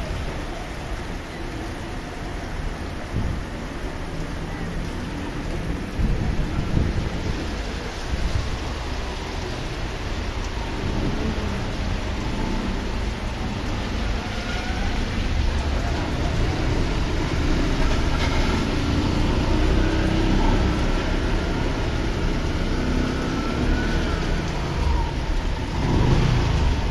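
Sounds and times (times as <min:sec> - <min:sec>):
auto-rickshaw engines passing: 0:00.0 - 0:26.9
heavy rain on wet street: 0:00.0 - 0:26.9.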